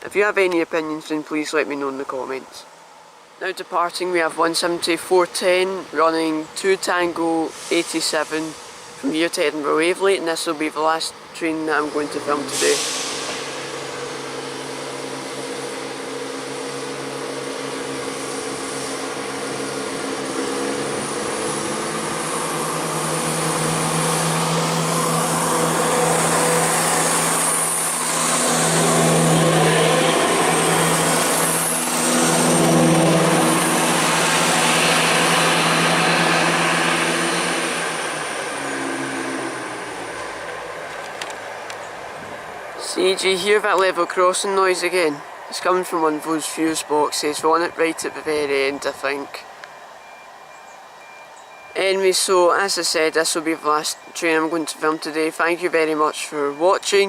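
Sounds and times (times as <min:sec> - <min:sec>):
diesel train accelerating: 0:00.0 - 0:57.0.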